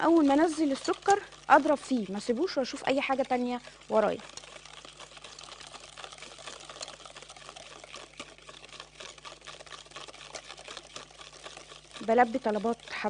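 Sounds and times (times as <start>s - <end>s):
whisk clicking against metal bowl: 0.0s - 13.0s.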